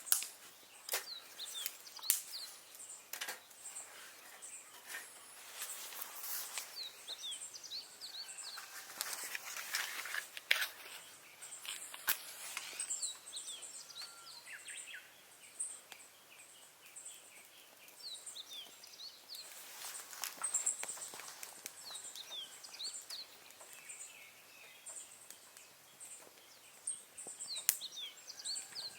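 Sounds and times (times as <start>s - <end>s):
crackles and sharp snaps: 0.0s - 14.2s, 15.6s - 28.9s
small birds chirping: 0.0s - 28.9s.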